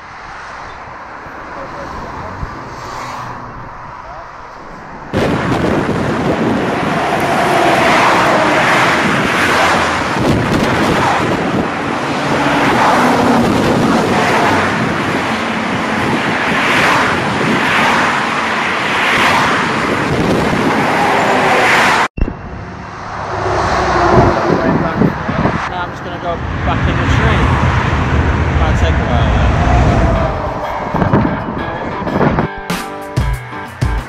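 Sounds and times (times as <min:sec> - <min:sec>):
highway traffic passing: 0:00.0 - 0:34.0.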